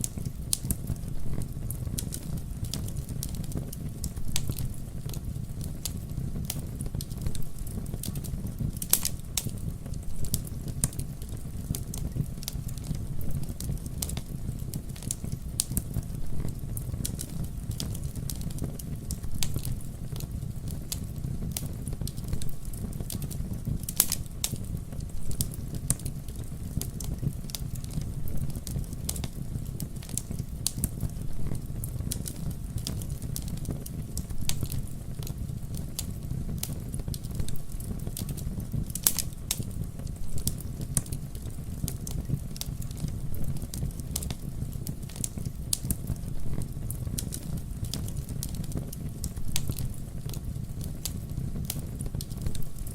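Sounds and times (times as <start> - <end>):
campfire flames rumbling: 0.0 - 52.9
wood crackling and popping: 0.0 - 52.9.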